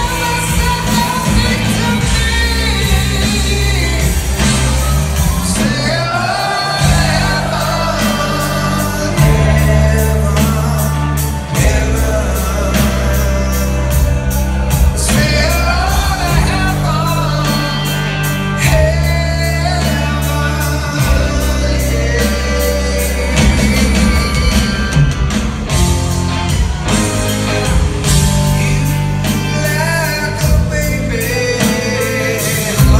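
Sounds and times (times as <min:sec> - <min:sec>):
male lead vocal: 0:00.0 - 0:26.9, 0:27.5 - 0:32.9
live rock band playing: 0:00.0 - 0:32.9.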